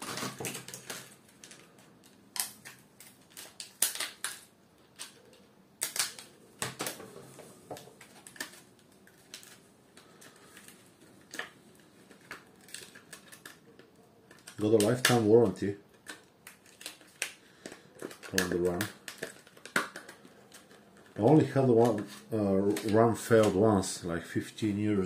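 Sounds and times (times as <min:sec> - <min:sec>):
plastic packaging clicks and crackles: 0:00.0 - 0:23.7.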